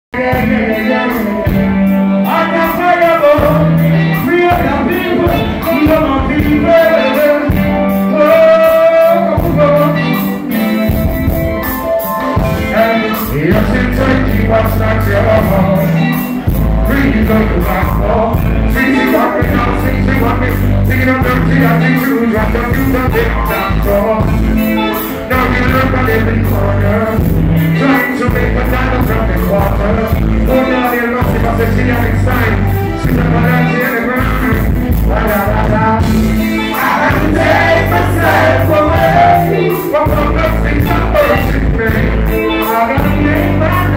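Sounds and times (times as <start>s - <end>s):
live reggae band playing: 0.1s - 43.9s.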